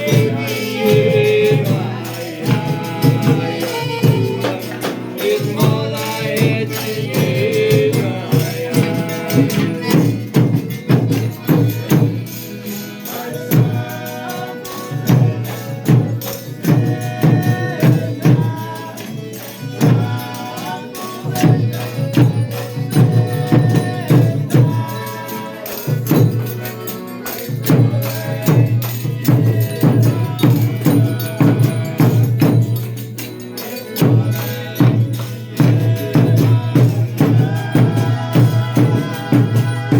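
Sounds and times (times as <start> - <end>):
folk musicians playing: 0.0 - 39.9
tambourine beating: 0.0 - 39.9.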